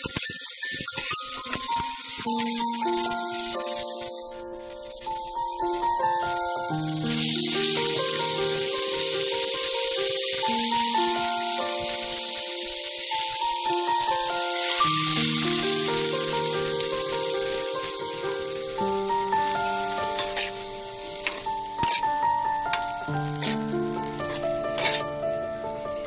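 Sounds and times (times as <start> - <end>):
vegetables sizzling in oil: 0.0 - 26.0
soft background music: 0.1 - 26.0.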